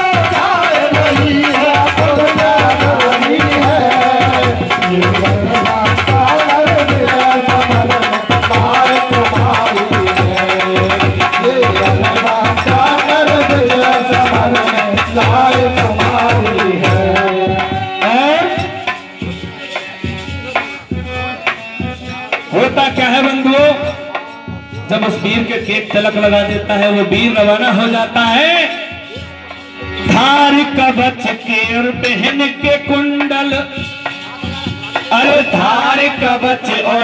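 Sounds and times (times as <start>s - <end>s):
hand drum beat: 0.0s - 27.3s, 30.9s - 37.0s.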